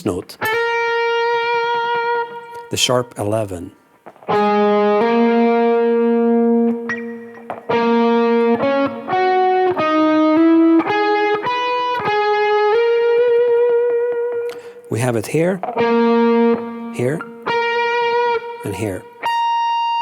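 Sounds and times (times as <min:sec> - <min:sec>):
electric guitar phrase: 0:00.4 - 0:20.0.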